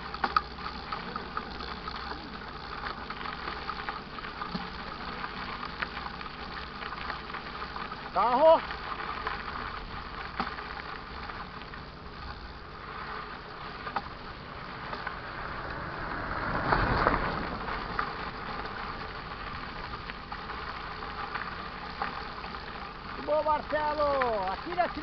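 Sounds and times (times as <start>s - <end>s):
bike clicks and rattles: 0.0s - 25.0s
mountain bike rushing on dirt trail: 0.0s - 25.0s.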